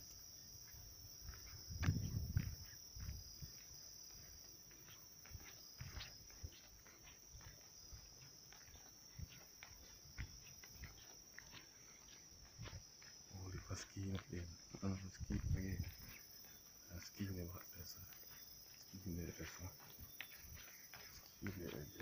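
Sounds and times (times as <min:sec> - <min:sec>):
crickets chirping: 0:00.0 - 0:22.0
footsteps on road: 0:00.0 - 0:22.0.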